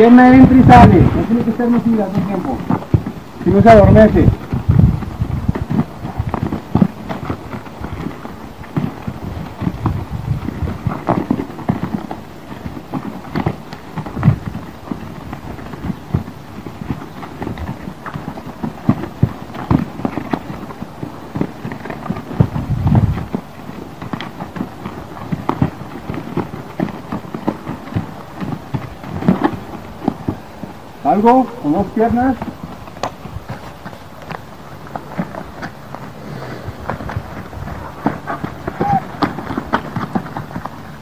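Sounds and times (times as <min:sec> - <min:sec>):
horse hooves in sand: 0:00.0 - 0:41.0.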